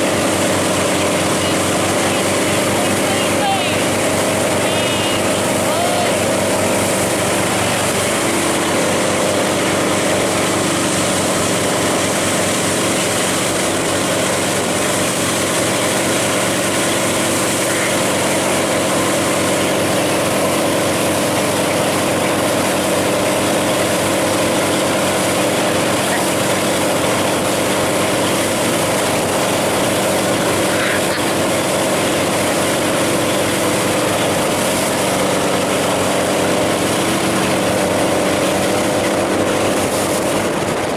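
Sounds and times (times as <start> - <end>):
churning wake water: 0.0 - 40.9
motorboat engine running: 0.0 - 40.9.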